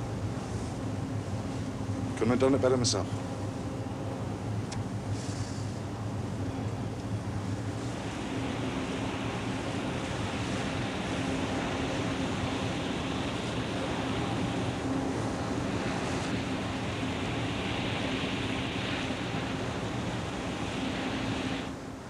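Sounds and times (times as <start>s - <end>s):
low machinery hum: 0.0s - 22.0s
wind: 0.0s - 22.0s
sea wash: 3.2s - 22.0s.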